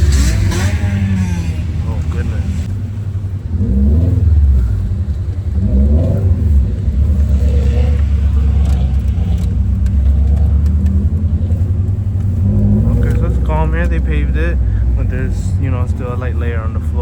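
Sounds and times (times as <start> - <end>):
car engine exhaust drone: 0.0 - 17.0.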